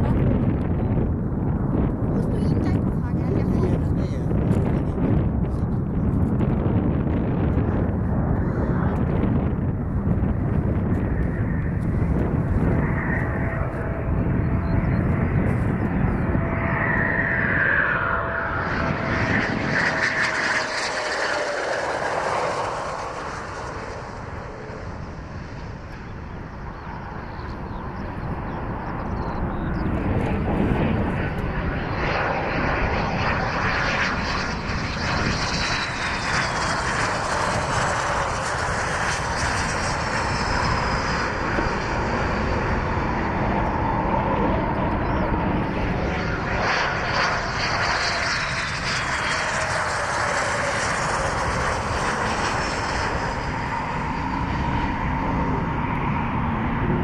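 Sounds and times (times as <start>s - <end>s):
falling jet whine: 0.0s - 57.0s
jet engine roar: 0.0s - 57.0s.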